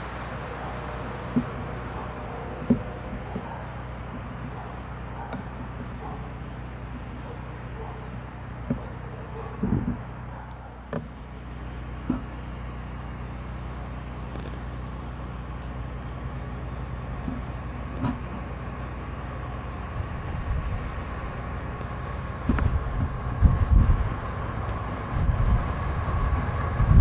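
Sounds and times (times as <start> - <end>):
locomotive low rumble: 0.0 - 27.0.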